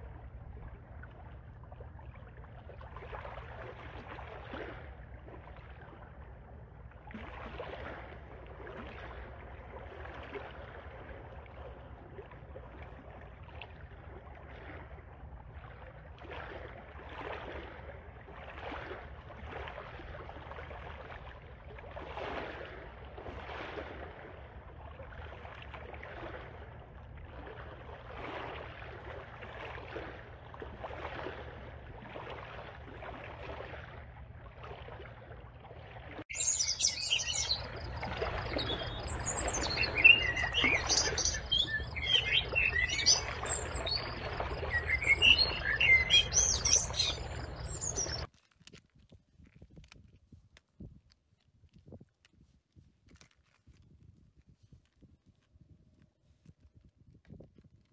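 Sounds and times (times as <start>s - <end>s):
water sloshing and splashing: 0.0s - 55.6s
wind rumble on microphone: 0.0s - 57.9s.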